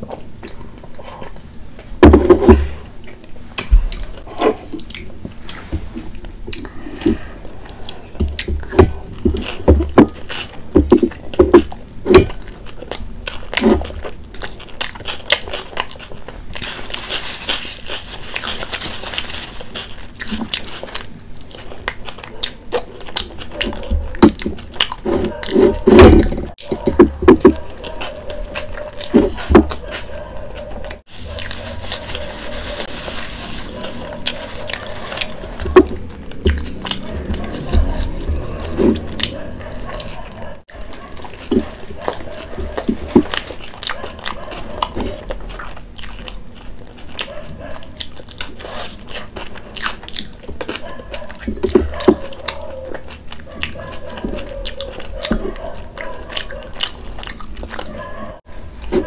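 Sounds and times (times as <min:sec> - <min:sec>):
biting and wet chewing: 0:00.0 - 0:59.0.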